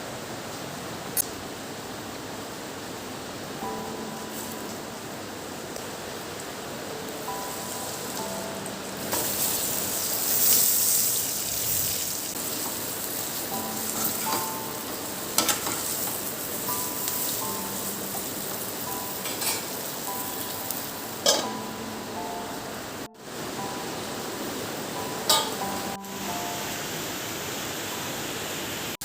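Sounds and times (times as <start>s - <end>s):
food sizzling in a frying pan: 3.6s - 5.0s, 6.2s - 29.0s.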